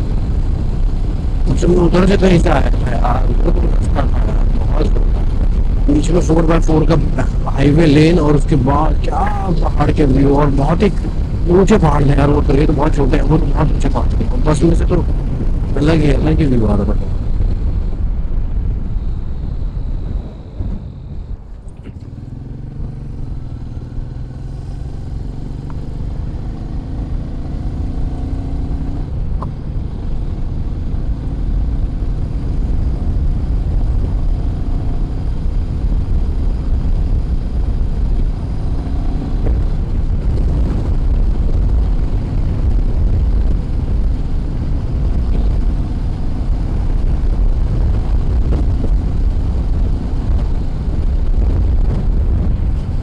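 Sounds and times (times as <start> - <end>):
motorcycle engine running: 0.0 - 53.0
wind rumble on microphone: 0.0 - 53.0.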